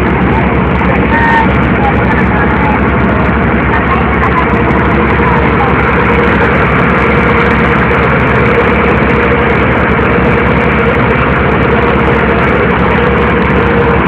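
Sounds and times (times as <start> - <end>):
boat engine throbbing: 0.0 - 14.0.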